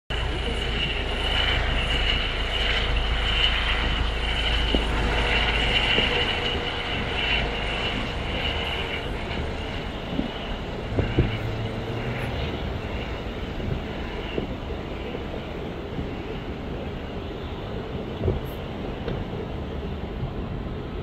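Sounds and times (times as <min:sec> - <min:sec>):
helicopter taking off: 0:00.1 - 0:19.4
high turbine whine: 0:00.1 - 0:21.0.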